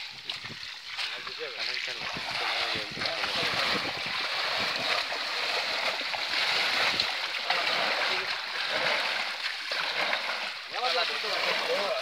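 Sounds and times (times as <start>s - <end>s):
fish splashing in a net: 0.0s - 12.0s.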